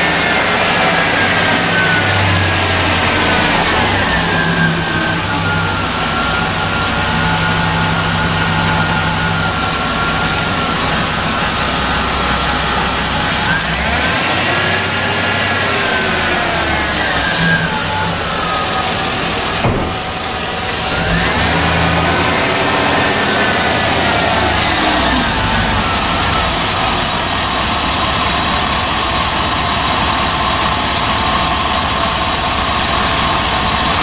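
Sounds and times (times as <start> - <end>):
truck engine surging idle: 0.0 - 34.0.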